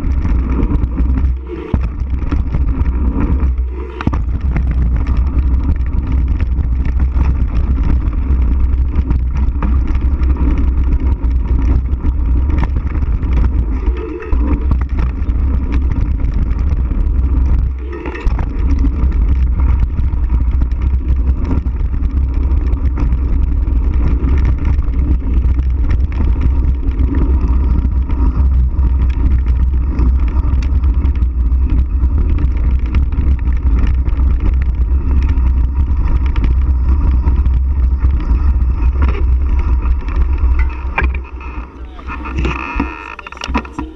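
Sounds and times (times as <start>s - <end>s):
bike tyre and trail rumble: 0.0s - 43.9s
wind buffeting microphone: 0.0s - 43.9s.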